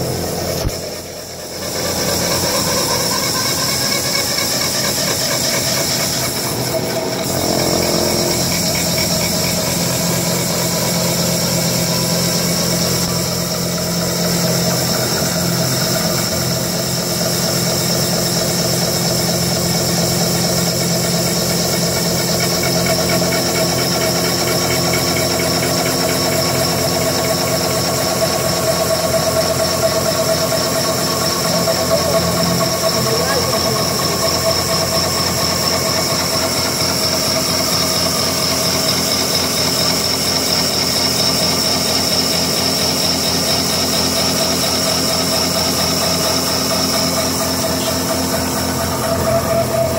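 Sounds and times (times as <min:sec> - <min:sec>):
milling machine cutting metal: 0:00.0 - 0:49.9.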